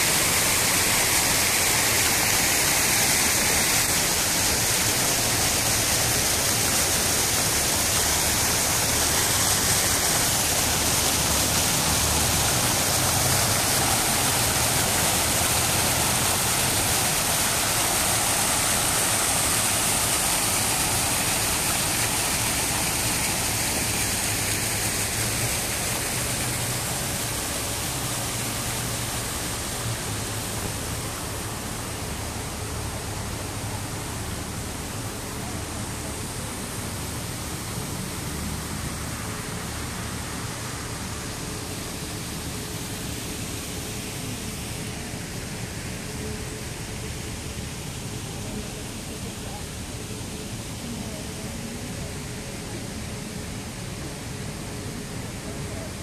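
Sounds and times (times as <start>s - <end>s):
fountain jets splashing: 0.0s - 56.0s.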